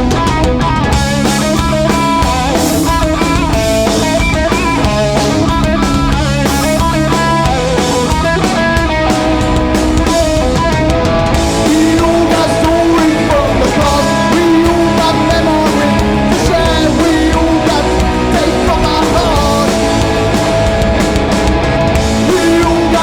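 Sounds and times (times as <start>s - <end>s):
bass guitar: 0.0s - 23.0s
distorted electric guitars: 0.0s - 23.0s
drum kit: 0.0s - 23.0s.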